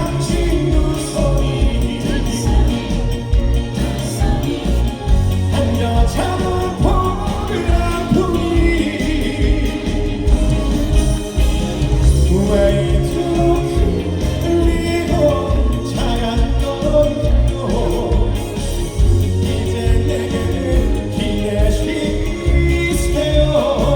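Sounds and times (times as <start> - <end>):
amplified band with bass beat: 0.0 - 23.9
person singing: 0.0 - 23.9.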